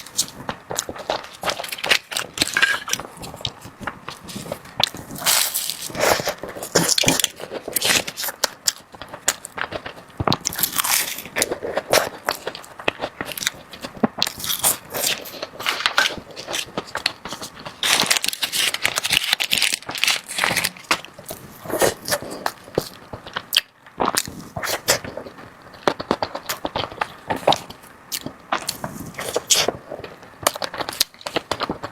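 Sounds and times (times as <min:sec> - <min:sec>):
crunchy food chewing: 0:00.0 - 0:31.9.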